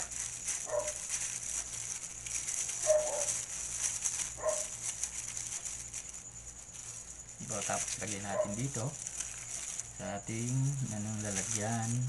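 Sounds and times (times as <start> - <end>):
plastic glove rustling in flour: 0.0 - 12.0.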